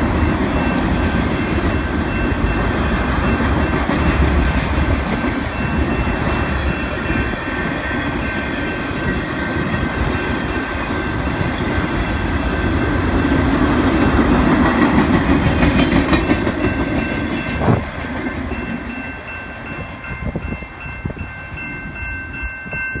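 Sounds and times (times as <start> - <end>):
train wheels clattering on rails: 0.0 - 21.2.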